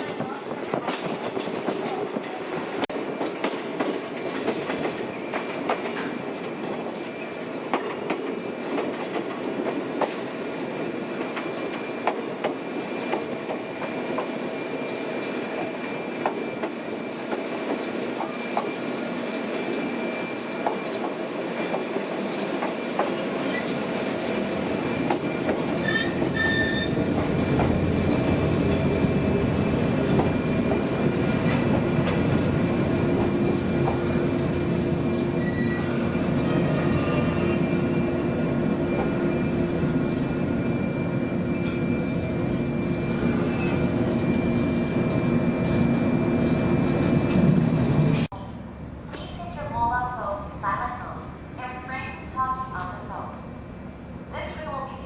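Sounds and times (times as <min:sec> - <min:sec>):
electric train rumbling on rails: 0:00.0 - 0:55.0.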